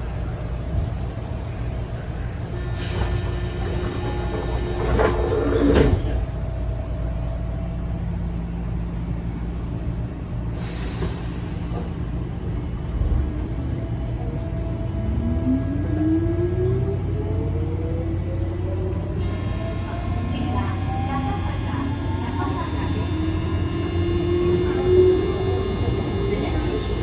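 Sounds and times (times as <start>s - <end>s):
train car rumble: 0.0s - 27.0s.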